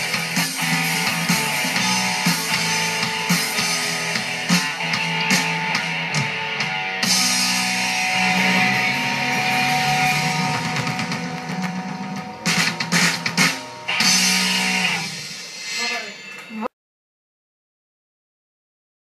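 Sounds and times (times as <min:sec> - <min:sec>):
rock song with guitar and drums: 0:00.0 - 0:15.8.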